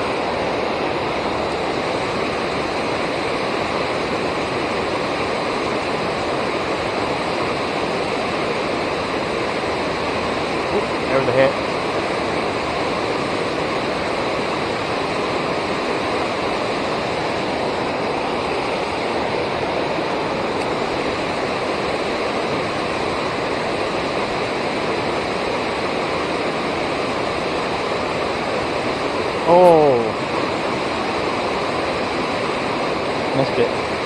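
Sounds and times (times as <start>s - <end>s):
river water pouring over dam: 0.0s - 34.0s.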